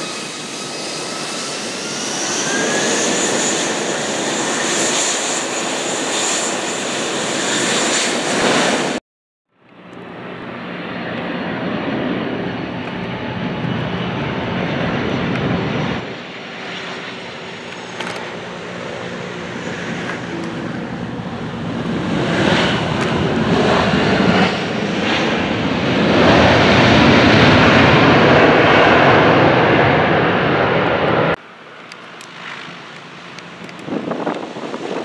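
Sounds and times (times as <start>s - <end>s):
airplane engine drone: 0.0s - 35.0s.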